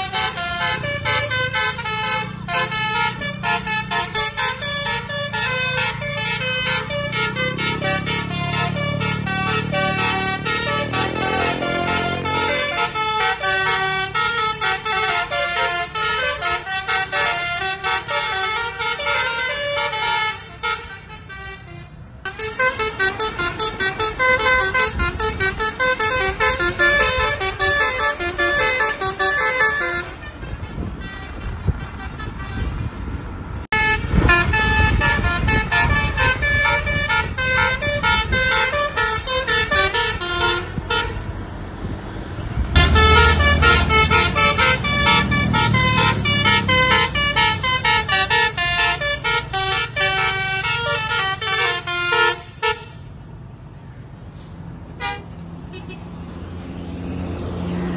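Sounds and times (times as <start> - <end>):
multi-tone bus horns melody: 0.0 - 53.3, 54.3 - 57.9
low bus rumble: 0.0 - 57.9.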